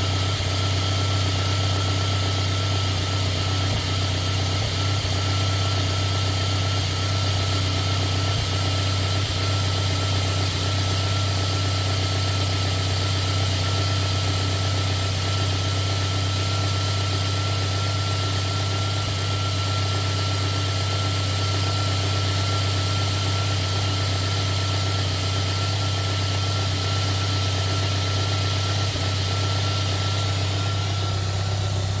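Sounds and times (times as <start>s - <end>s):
car engine idling: 0.0s - 32.0s
thin steady whine: 0.0s - 32.0s.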